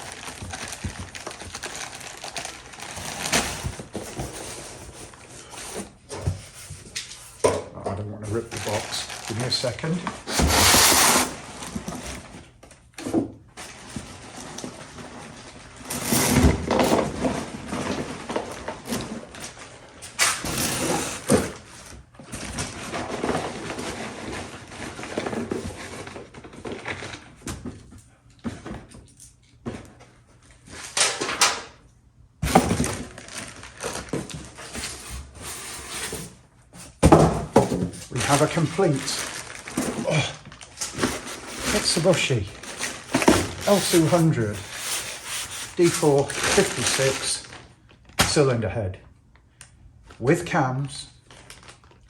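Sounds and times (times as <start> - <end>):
cardboard and packing rustling: 0.0 - 31.4, 32.4 - 48.4, 51.2 - 52.0.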